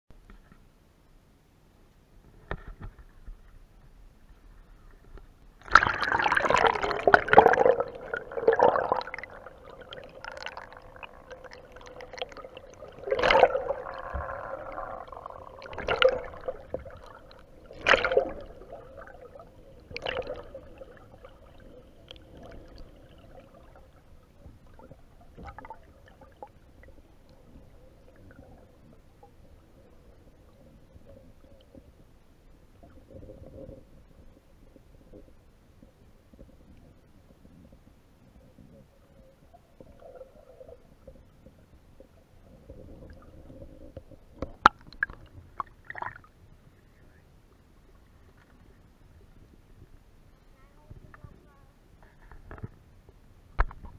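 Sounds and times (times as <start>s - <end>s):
underwater gurgling and sloshing: 2.1s - 53.9s.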